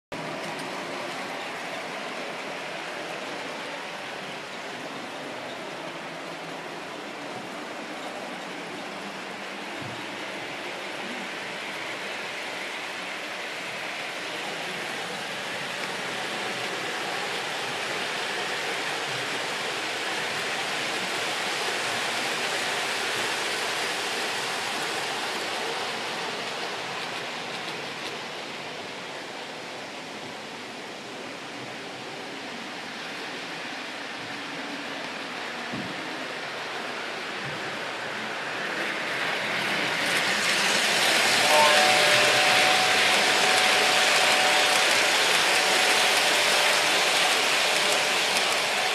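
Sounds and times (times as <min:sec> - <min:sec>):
model train wheels on rail: 0:00.1 - 0:48.9.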